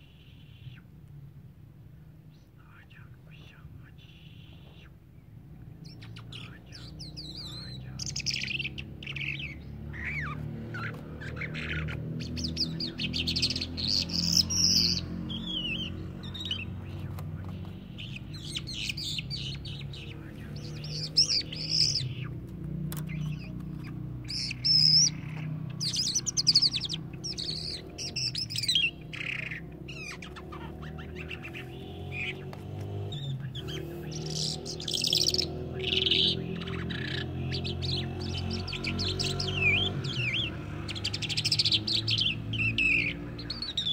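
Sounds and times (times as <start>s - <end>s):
songbird chirping and warbling: 0.0s - 43.9s.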